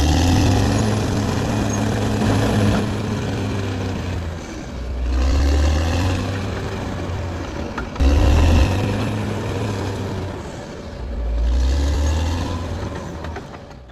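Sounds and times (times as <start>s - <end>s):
bulldozer diesel engine rumbling: 0.0s - 13.9s.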